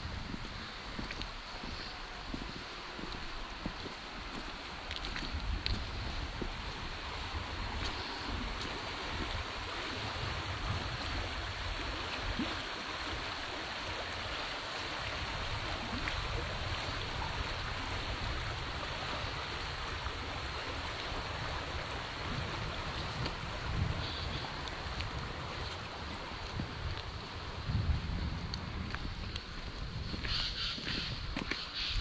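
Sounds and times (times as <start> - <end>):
stream water rushing: 0.0 - 32.0
wind buffeting microphone: 0.0 - 32.0.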